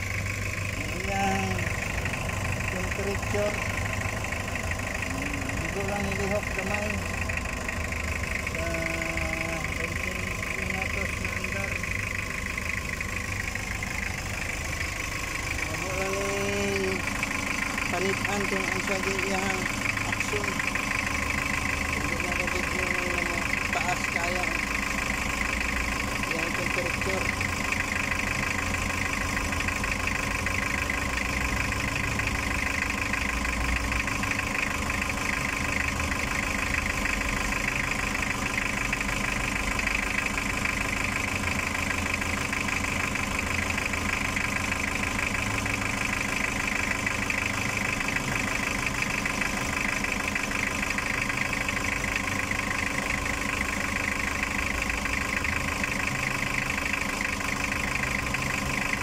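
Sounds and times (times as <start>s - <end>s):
diesel engine idling: 0.0s - 59.0s
rapid engine ticking: 0.0s - 59.0s.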